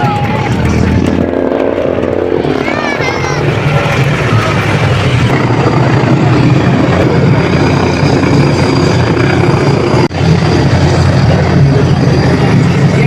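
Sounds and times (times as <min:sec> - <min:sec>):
loud engine rumble: 0:00.0 - 0:13.0.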